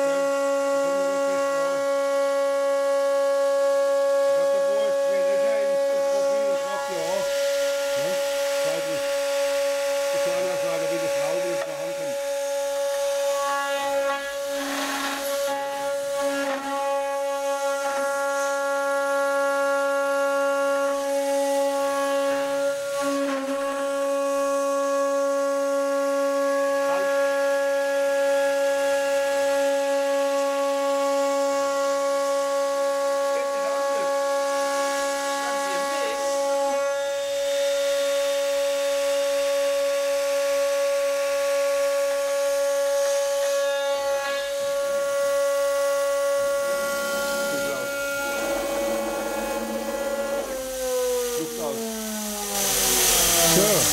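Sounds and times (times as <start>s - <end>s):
end mill cutting metal: 0.0s - 53.9s
router spindle high whine: 0.0s - 53.9s.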